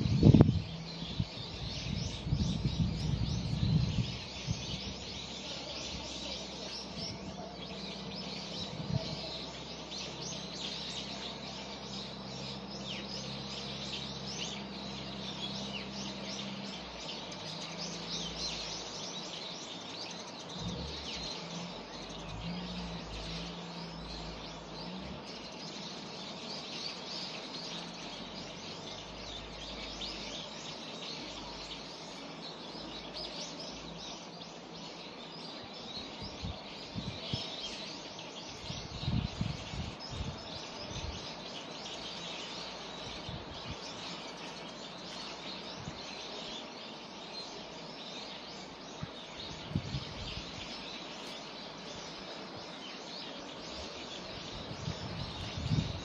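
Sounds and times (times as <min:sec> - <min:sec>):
distant traffic hum: 0:00.0 - 0:56.0
songbirds chirping and twittering: 0:00.0 - 0:56.0.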